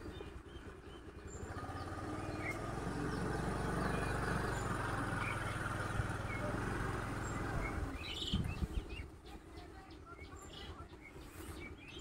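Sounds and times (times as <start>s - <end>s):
birds chirping: 0.0s - 12.0s
vehicle engine running: 0.0s - 12.0s.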